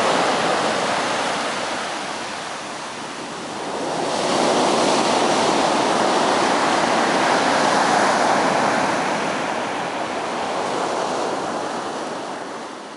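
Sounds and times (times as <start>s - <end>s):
waves breaking on beach: 0.0s - 12.9s.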